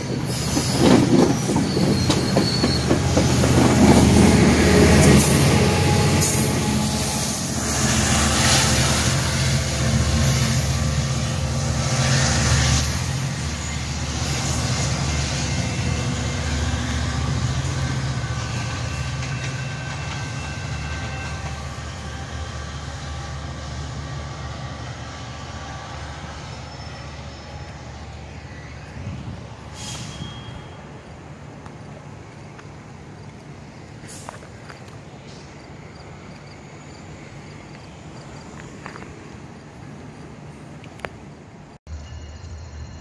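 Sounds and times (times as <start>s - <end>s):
locomotive engine rumble: 0.0s - 41.5s
train wheels rolling on rails: 0.0s - 43.0s.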